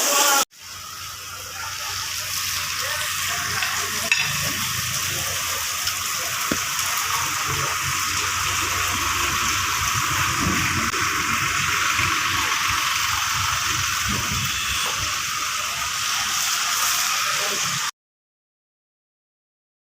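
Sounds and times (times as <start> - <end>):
water rushing hiss: 0.0 - 17.9.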